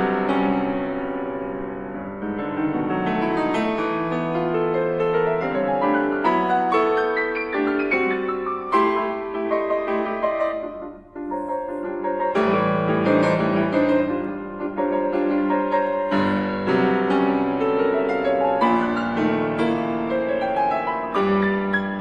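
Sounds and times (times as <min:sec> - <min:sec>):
grand piano chords: 0:00.0 - 0:22.0.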